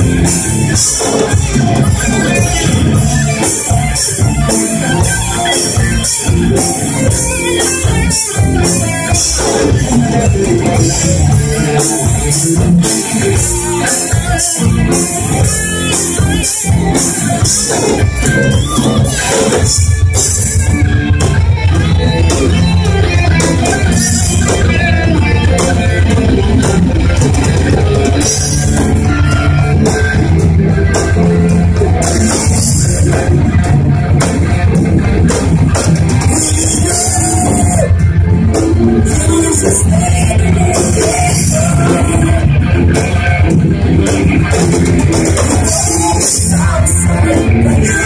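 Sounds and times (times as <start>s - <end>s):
distorted electric guitars: 0.0s - 48.0s
drum kit: 0.0s - 48.0s.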